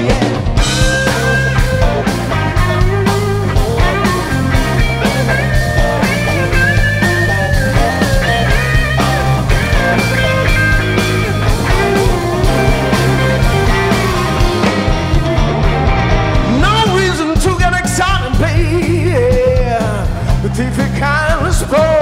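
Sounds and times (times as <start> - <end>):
electric guitar lead: 0.0 - 20.7
blues-rock band playing: 0.0 - 22.0
steady drum beat: 0.0 - 22.0.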